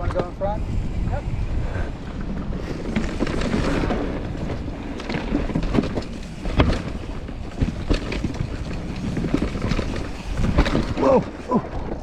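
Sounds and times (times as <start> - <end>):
bike tyres rolling over rocks: 0.0 - 12.0
wind on microphone: 0.0 - 12.0
bike knocks and rattles: 2.3 - 12.0.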